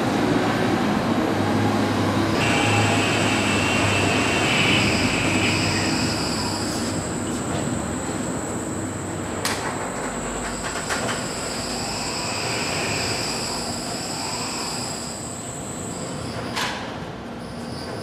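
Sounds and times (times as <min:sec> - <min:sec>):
crane machine whine: 0:00.0 - 0:16.4
industrial hum: 0:00.0 - 0:17.5.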